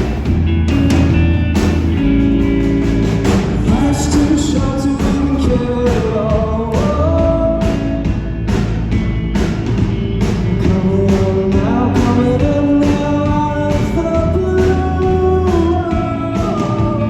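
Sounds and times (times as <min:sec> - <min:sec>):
live rock band playing: 0:00.0 - 0:17.0
steady drum beat: 0:00.0 - 0:17.0.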